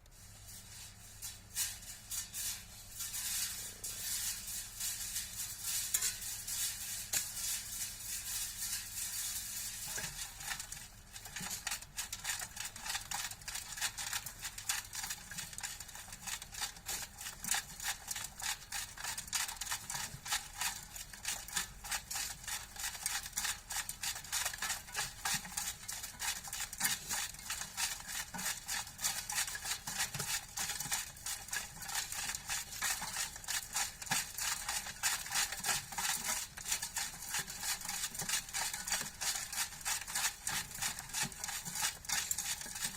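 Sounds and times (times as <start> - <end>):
sand rattling through a sieve: 0.0 - 42.9.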